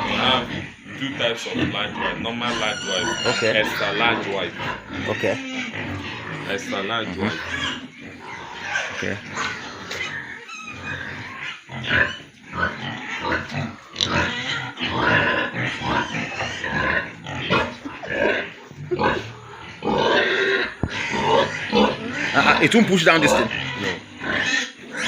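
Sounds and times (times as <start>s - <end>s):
pigs grunting and squealing: 0.0s - 25.0s.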